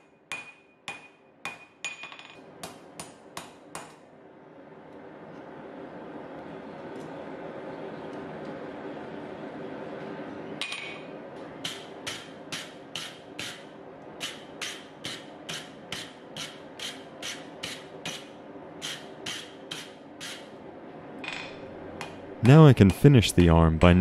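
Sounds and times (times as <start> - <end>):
steady hum: 4.1 - 24.0.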